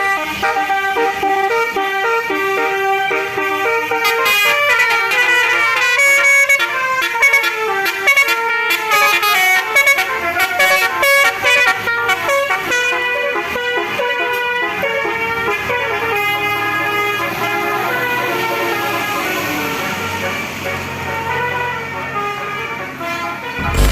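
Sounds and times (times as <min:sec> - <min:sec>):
musical bus horn: 0:00.0 - 0:23.9.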